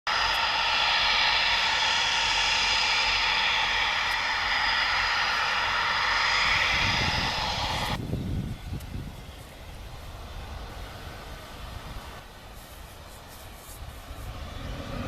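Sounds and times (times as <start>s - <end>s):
jet engine whine: 0.0s - 15.0s
low rumble: 0.1s - 12.2s, 13.8s - 15.0s.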